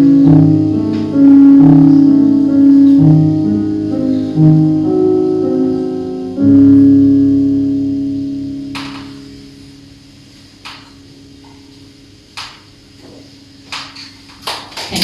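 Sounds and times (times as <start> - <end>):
piano playing slow chords: 0.0 - 14.4.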